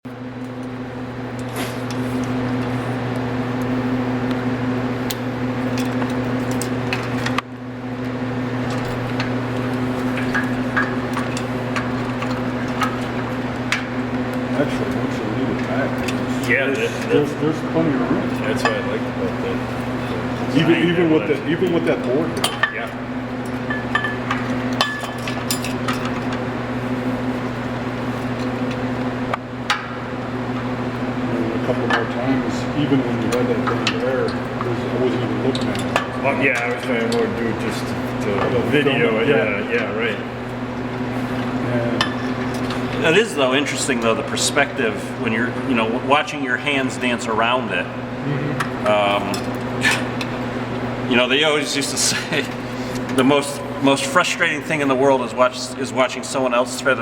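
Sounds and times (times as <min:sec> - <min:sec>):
low hum of machinery: 0:00.0 - 0:57.0.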